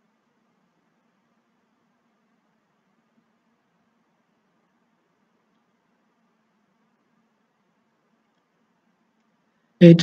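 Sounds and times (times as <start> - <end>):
faint microphone hiss: 0.0 - 10.0
low steady hum: 0.0 - 10.0.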